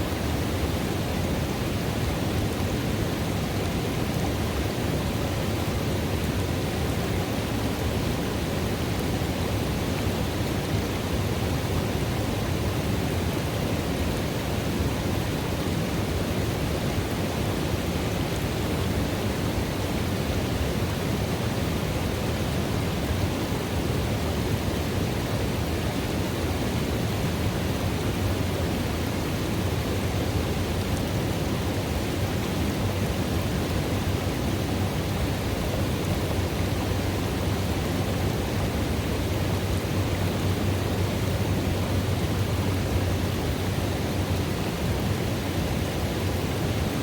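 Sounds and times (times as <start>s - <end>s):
river water rushing into pool: 0.0s - 47.0s.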